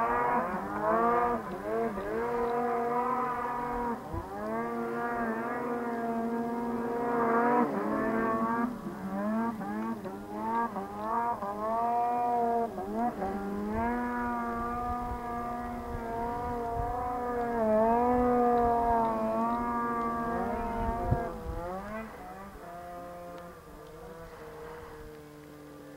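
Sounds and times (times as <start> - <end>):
snowmobile engine running under load: 0.0 - 25.9.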